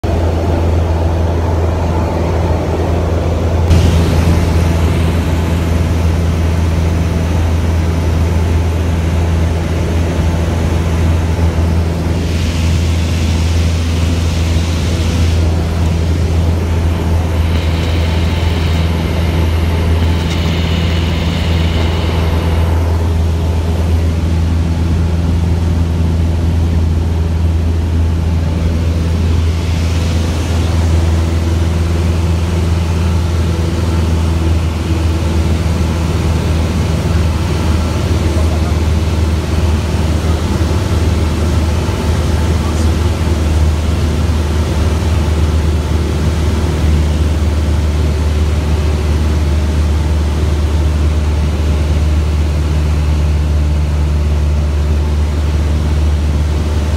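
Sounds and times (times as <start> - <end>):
airplane engine droning in cabin: 0.0 - 56.9.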